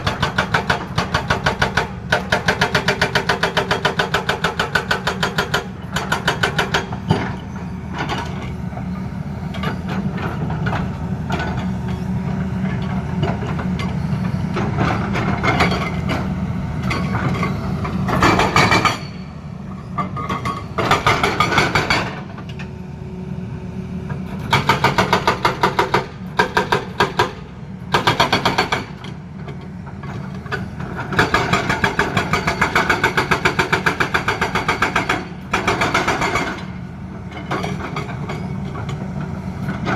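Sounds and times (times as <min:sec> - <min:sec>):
hydraulic rock breaker hammering: 0:00.0 - 0:08.5, 0:09.6 - 0:19.4, 0:20.0 - 0:22.6, 0:24.4 - 0:39.9
excavator engine running: 0:00.0 - 0:39.9.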